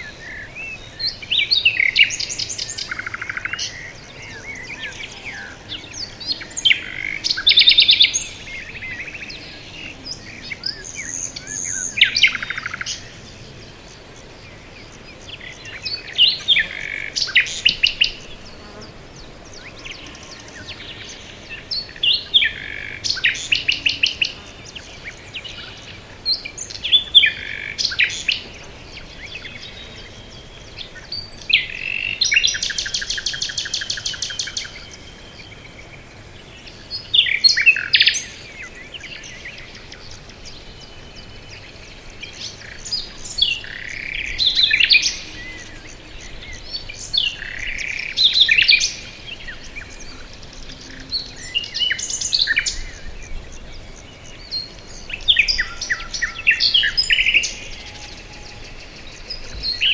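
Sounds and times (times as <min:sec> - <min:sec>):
faint steady hiss: 0:00.0 - 0:59.9
songbird singing with trill: 0:00.0 - 0:59.9.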